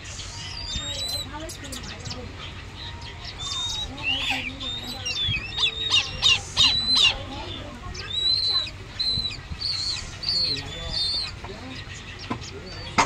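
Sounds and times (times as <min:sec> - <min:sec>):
owl chicks begging calls: 0:00.0 - 0:13.0.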